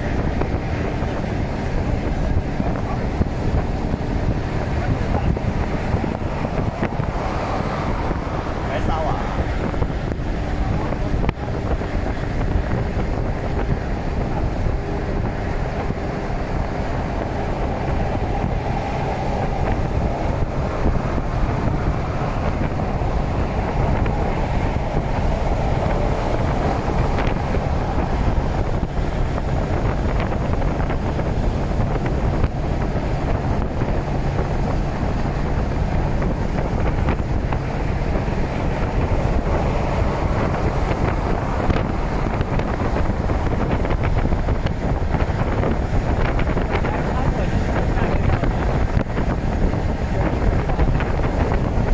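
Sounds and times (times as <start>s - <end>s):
low rumble: 0.0s - 51.9s
wind buffeting microphone: 0.0s - 51.9s.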